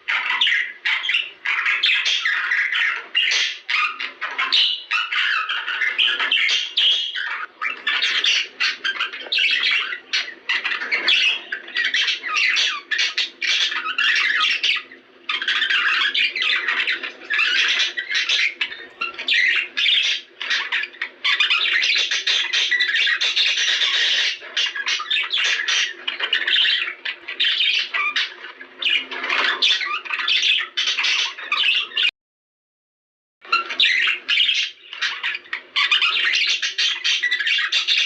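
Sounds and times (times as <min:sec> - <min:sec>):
budgerigars chattering and squawking: 0:00.0 - 0:32.1, 0:33.4 - 0:38.0.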